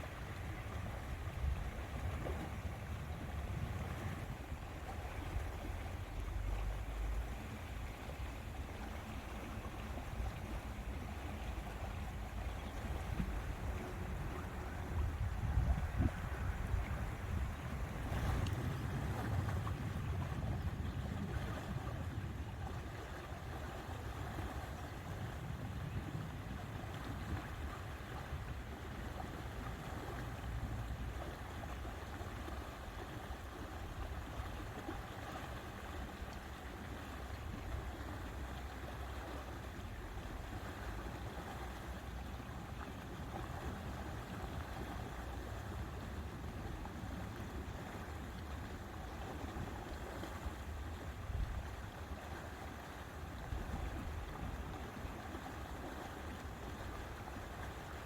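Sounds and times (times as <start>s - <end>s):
lake water: 0.0s - 58.0s
wind: 0.0s - 58.0s.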